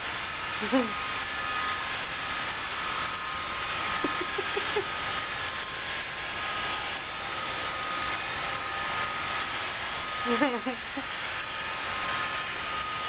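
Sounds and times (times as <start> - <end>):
robot vacuum whirring: 0.1 - 13.0.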